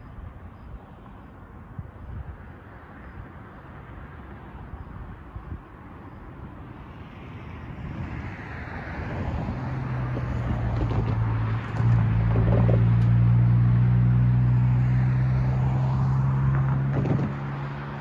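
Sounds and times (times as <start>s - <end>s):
low engine hum: 0.0s - 18.0s
car approaching on road: 0.6s - 18.0s.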